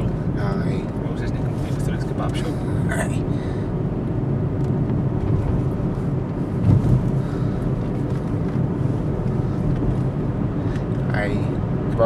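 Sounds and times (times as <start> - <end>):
car engine and tyres hum: 0.0 - 12.0.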